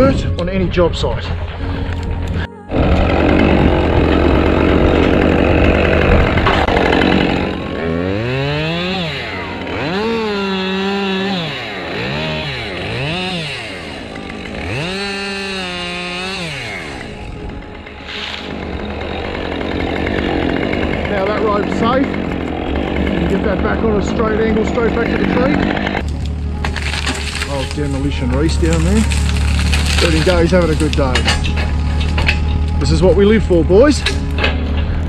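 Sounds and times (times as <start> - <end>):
chainsaw cutting and revving: 2.7 - 34.6.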